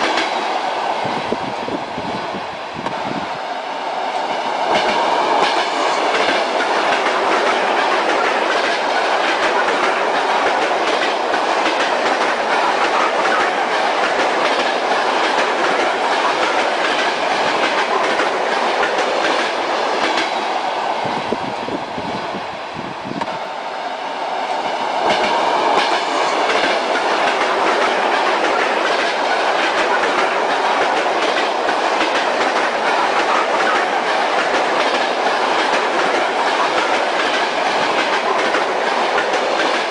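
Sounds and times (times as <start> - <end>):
train wheels clattering on rails: 0.0 - 1.3, 4.0 - 21.4, 24.3 - 39.9.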